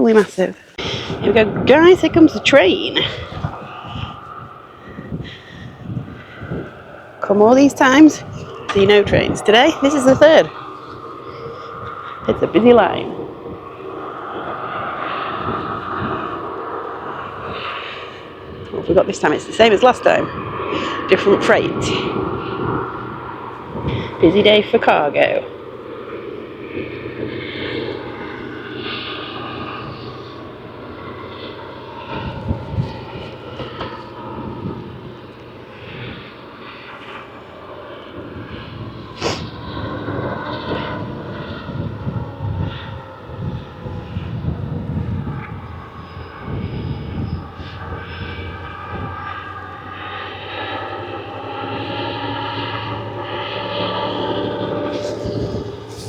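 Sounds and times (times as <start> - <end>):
diesel locomotive engine drone: 0.0 - 56.0
train wagons rumbling on rails: 0.0 - 56.0
wind buffeting microphone: 0.0 - 56.0.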